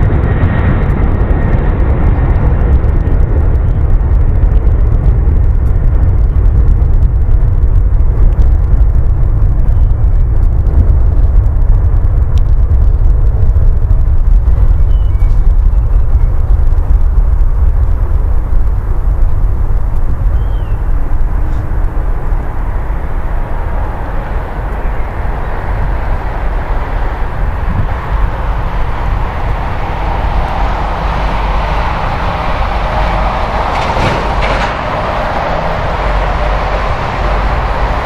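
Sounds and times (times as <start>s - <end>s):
jet engines at takeoff thrust: 0.0s - 38.0s.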